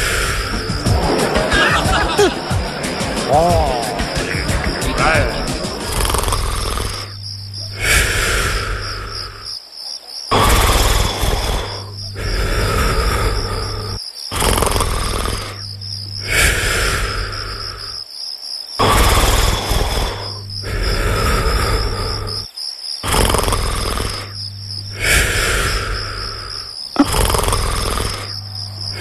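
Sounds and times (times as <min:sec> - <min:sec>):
cartoon character snoring: 0:00.0 - 0:01.0, 0:03.2 - 0:09.6, 0:10.3 - 0:18.0, 0:18.8 - 0:29.0
crickets chirping: 0:00.0 - 0:29.0.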